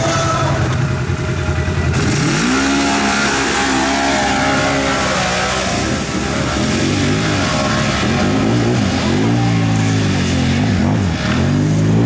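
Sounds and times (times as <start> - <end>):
engine revving hard under load: 1.9 - 12.0.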